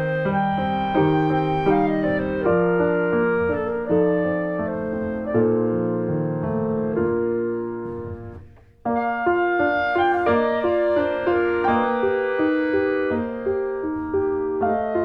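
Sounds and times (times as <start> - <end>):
piano music with sustained notes: 0.0 - 15.0.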